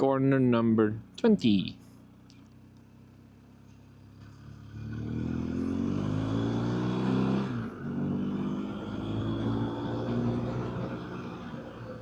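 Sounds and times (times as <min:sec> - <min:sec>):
motorcycle engine accelerating: 0:02.3 - 0:12.0.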